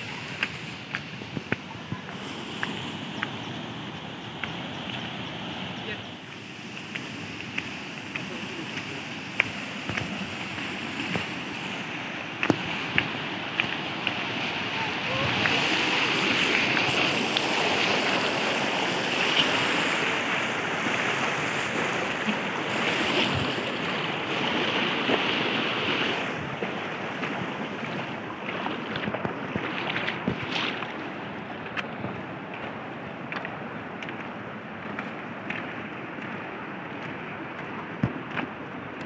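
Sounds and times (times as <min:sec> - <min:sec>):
stream rushing over stones: 0:00.0 - 0:39.0.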